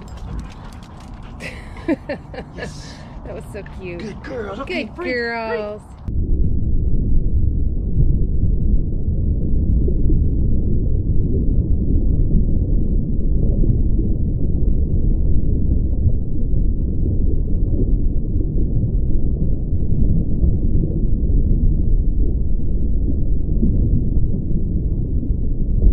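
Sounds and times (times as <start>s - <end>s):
loud low rumble: 0.0s - 25.9s.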